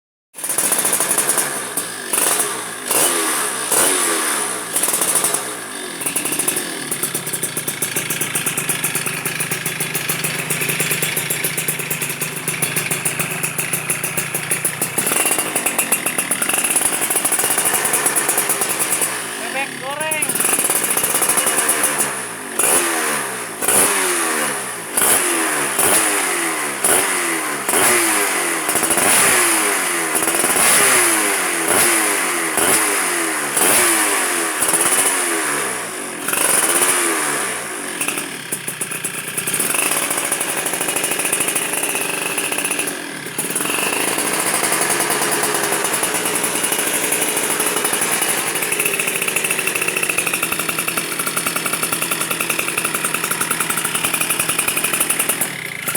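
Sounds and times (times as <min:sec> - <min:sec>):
motorcycle engine idling: 0:00.4 - 0:55.9
motorcycle engine revving: 0:00.4 - 0:55.9.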